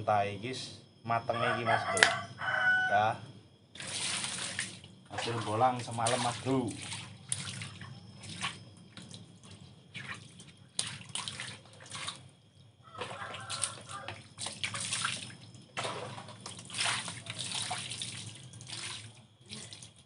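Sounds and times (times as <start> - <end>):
water splashing on concrete floor: 3.8 - 20.0.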